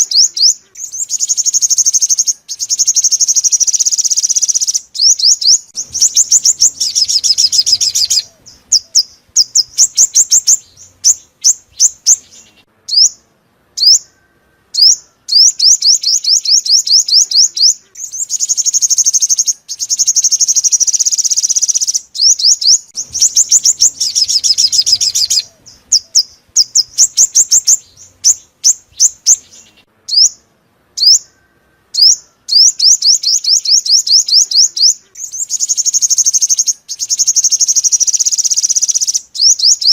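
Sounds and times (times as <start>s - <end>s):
sunbird song with fast trills: 0.0s - 39.9s.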